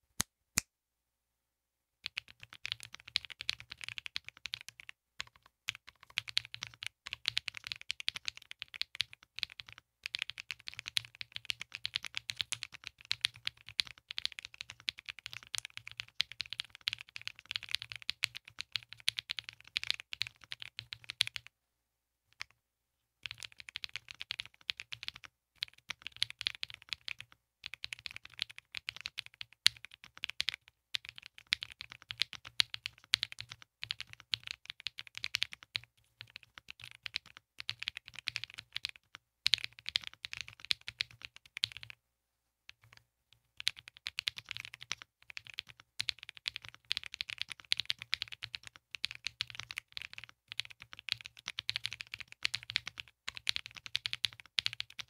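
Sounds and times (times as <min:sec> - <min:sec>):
mechanical keyboard typing: 0:02.0 - 0:21.5, 0:23.2 - 0:42.0, 0:43.6 - 0:55.0.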